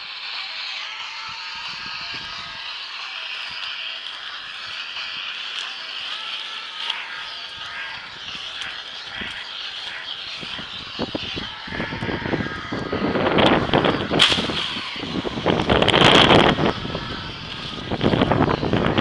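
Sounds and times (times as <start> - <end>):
steady high hiss: 0.0 - 19.0
leaves rustling against microphone: 0.1 - 19.0.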